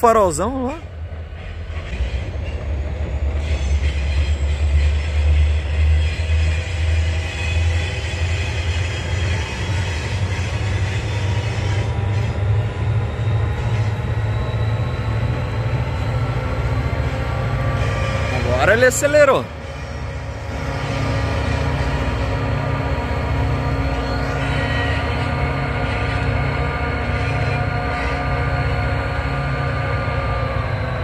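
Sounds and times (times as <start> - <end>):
train passing rumble: 0.0 - 31.0.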